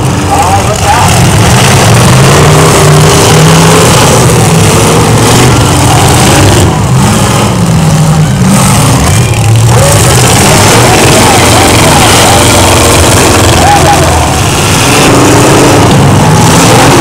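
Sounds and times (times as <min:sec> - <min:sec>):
car engines revving hard: 0:00.0 - 0:17.0
cars ramming each other: 0:00.0 - 0:17.0.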